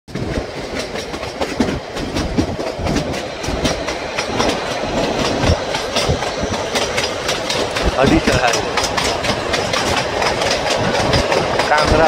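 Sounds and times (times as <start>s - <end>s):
rumble of train coaches: 0.1s - 12.0s
train wheels clicking over rail joints: 0.1s - 12.0s.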